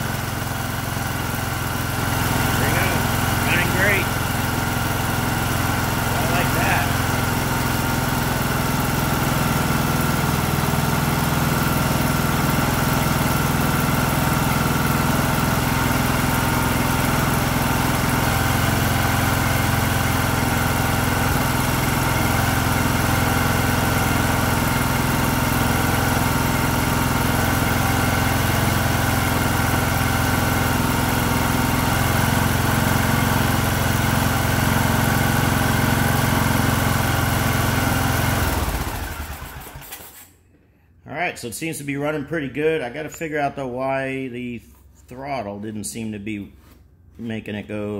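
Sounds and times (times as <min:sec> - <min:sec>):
lawn tractor engine running: 0:00.0 - 0:40.3.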